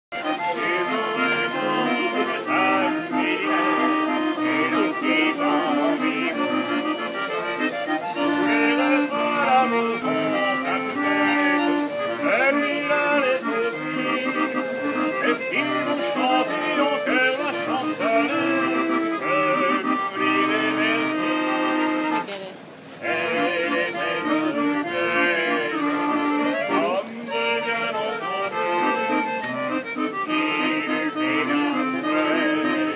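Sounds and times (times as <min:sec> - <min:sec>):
barrel organ playing: 0:00.2 - 0:22.3, 0:22.9 - 0:32.9.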